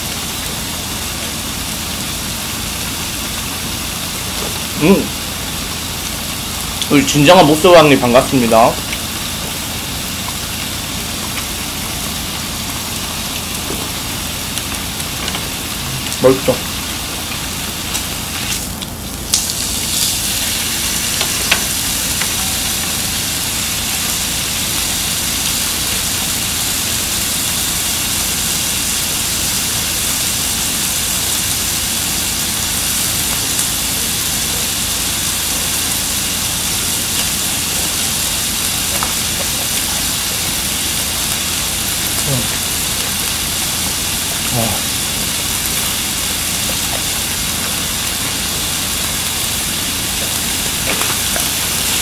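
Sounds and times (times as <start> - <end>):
meat sizzling on a grill: 0.0 - 52.0.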